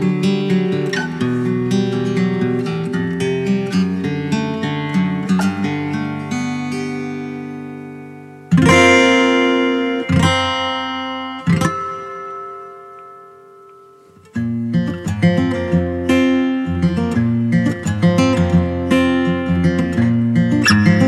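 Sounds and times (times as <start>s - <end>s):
acoustic guitar strummed chords: 0.0s - 21.0s
guitar picked notes: 0.0s - 21.0s.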